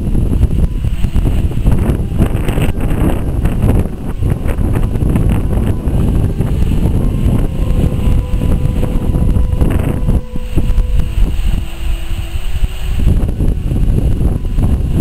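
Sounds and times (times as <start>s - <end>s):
steam locomotive passing: 0.0s - 15.0s
wind buffeting microphone: 0.0s - 15.0s.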